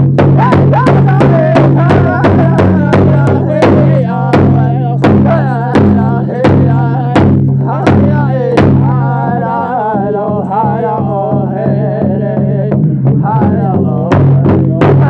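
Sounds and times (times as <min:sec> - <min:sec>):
big drum steady beat: 0:00.0 - 0:15.0
group singing high wavering lines: 0:00.6 - 0:15.0.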